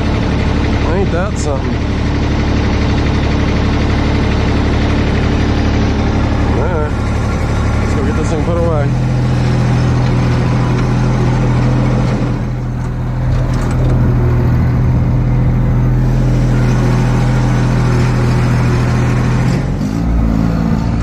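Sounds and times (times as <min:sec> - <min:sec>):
mower engine humming: 0:00.0 - 0:21.0.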